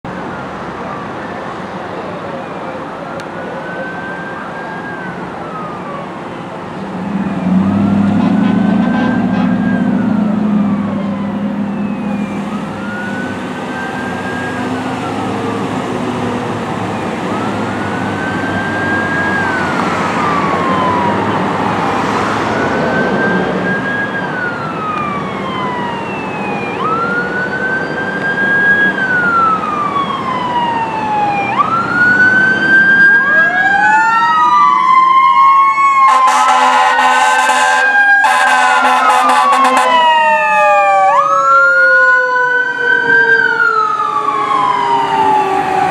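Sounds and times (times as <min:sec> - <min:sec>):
traffic noise: 0:00.0 - 0:45.9
fire engine siren wailing: 0:00.1 - 0:45.9.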